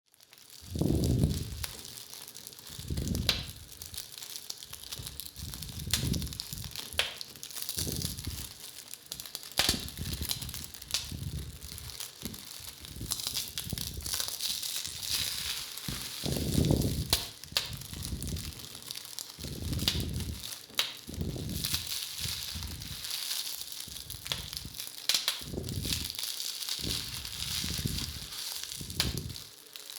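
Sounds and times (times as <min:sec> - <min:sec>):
bubble wrap popping: 0:00.1 - 0:29.9
cellophane crinkling crackles: 0:00.1 - 0:29.9.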